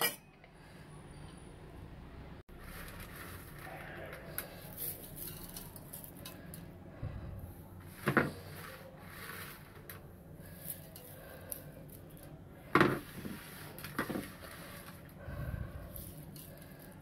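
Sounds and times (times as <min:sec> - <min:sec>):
faint rustle of onions: 0:02.5 - 0:17.0.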